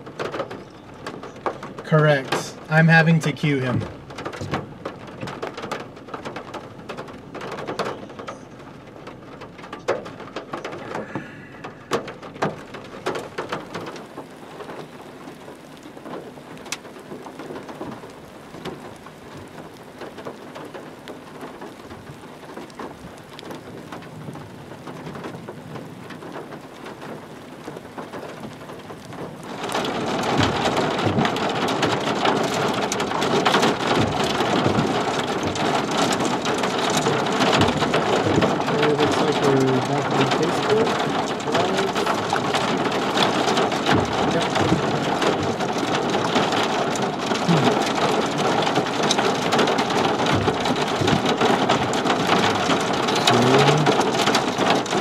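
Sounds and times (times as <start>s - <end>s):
rain on a vehicle roof: 0.0s - 55.0s.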